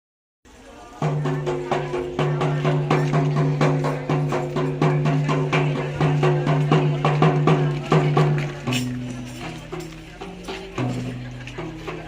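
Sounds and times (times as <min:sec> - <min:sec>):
frame drums playing fast rhythm: 0:01.0 - 0:12.0.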